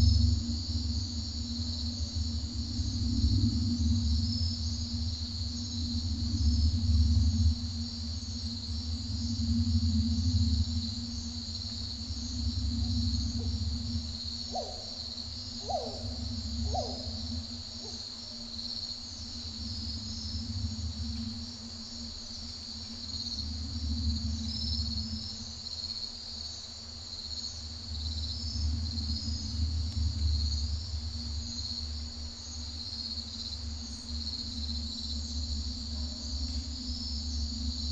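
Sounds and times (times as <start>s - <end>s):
low rumble: 0.0s - 26.3s, 27.4s - 37.9s
crickets chirping: 0.0s - 37.9s
steady low hum: 0.0s - 37.9s.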